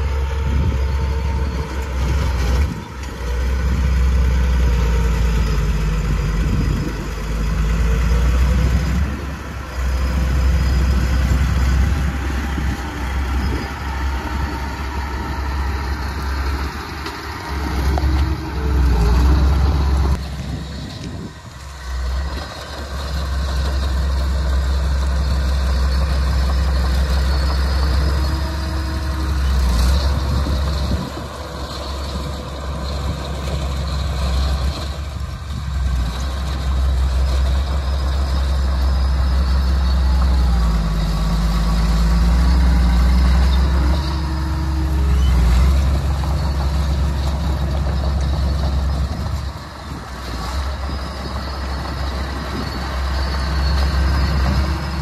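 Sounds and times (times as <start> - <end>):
bulldozer diesel engine droning: 0.0 - 55.0.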